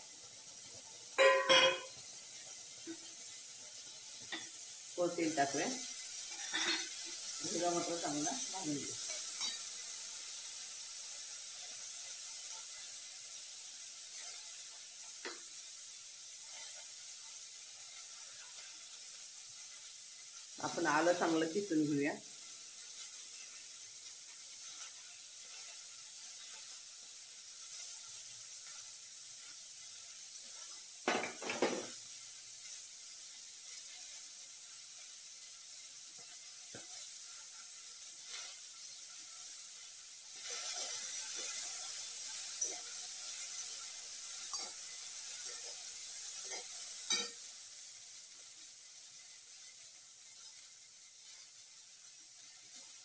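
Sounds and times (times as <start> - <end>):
peas sizzling in a pan: 0.0 - 53.0.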